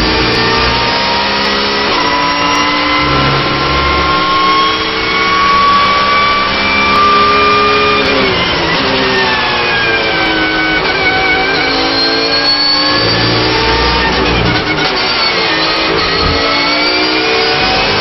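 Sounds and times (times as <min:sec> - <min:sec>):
race car engine at full throttle: 0:00.0 - 0:18.0.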